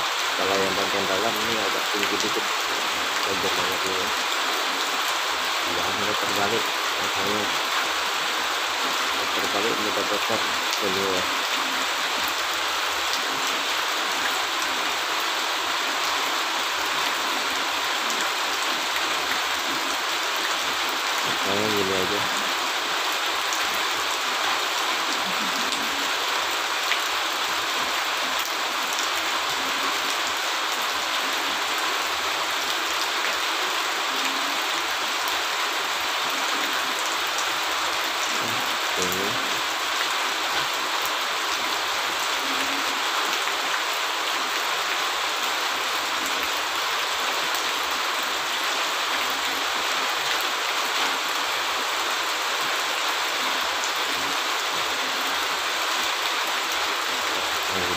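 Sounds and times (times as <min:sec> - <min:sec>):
steady hiss: 0:00.0 - 0:48.4, 0:49.6 - 0:57.9.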